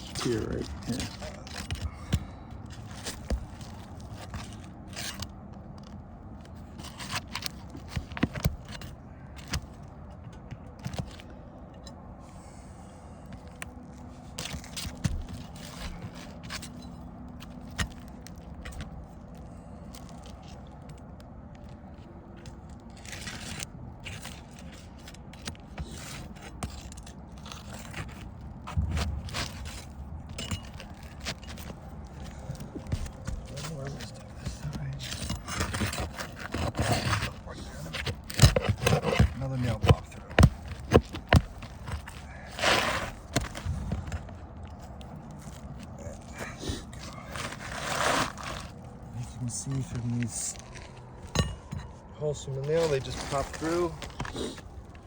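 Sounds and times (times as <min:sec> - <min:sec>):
roof shingles being scraped: 0:00.0 - 0:55.0.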